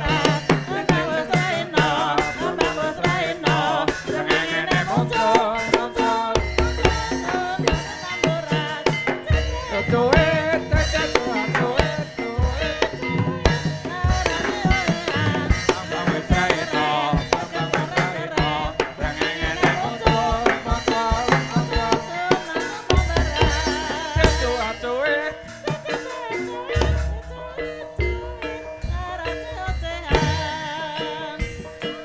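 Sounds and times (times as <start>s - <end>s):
drums beating a pattern: 0.0s - 32.0s
gamelan music: 0.0s - 32.0s.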